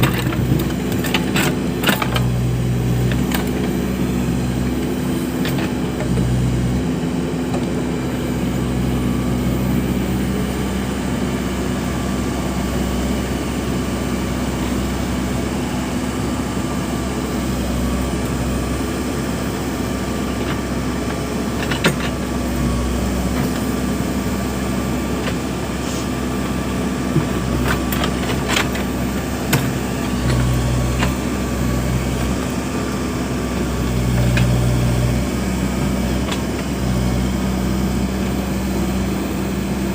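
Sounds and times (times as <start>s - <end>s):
backhoe loader diesel engine running: 0.0s - 39.9s.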